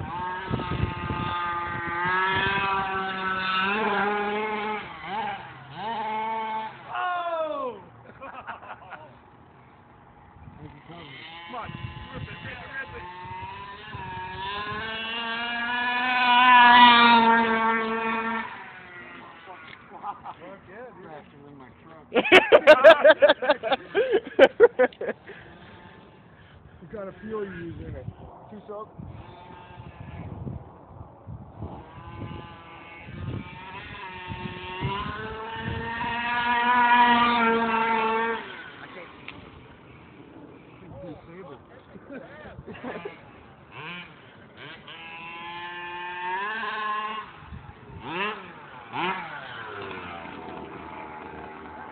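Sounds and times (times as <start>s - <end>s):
rc car engine driving by: 0.0s - 51.9s.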